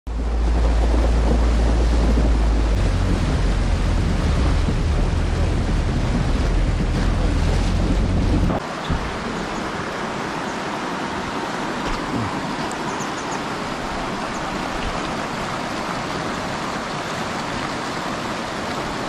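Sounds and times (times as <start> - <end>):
wind buffeting microphone: 0.1 - 19.0.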